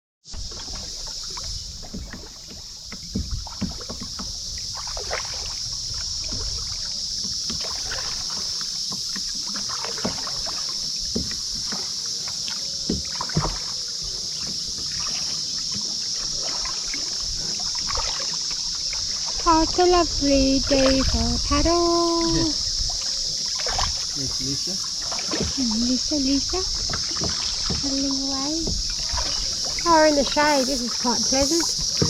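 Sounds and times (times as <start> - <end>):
paddle splashing in water: 0.3 - 32.0
high-pitched hiss: 0.4 - 32.0.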